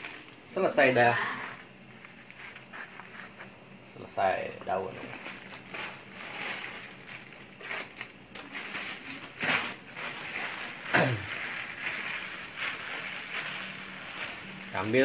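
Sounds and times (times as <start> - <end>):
plastic sheet crinkling: 0.0 - 3.5, 4.6 - 15.0.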